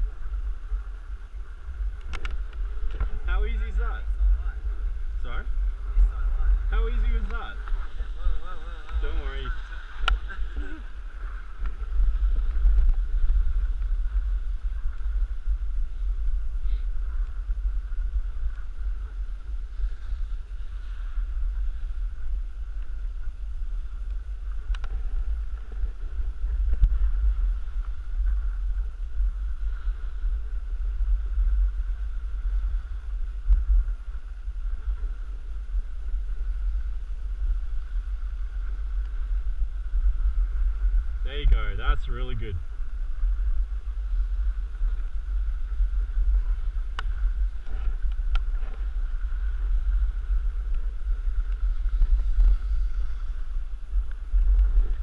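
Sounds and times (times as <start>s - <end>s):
steady hiss: 0.0s - 55.0s
wind buffeting microphone: 0.0s - 55.0s.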